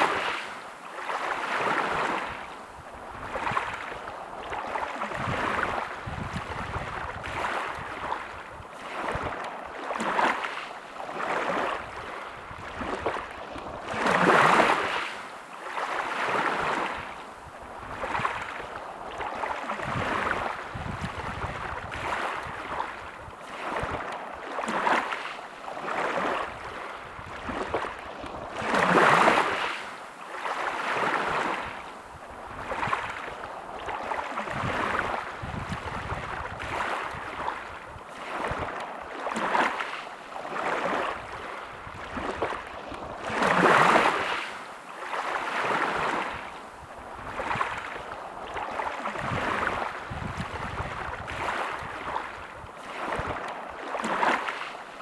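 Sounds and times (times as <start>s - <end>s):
sea waves washing in: 0.0s - 55.0s
waves breaking: 0.0s - 55.0s.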